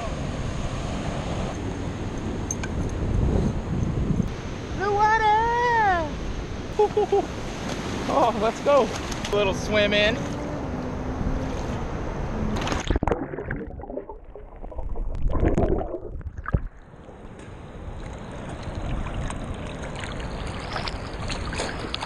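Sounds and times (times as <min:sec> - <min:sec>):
shallow ocean surf: 0:00.0 - 0:14.8, 0:15.7 - 0:22.0.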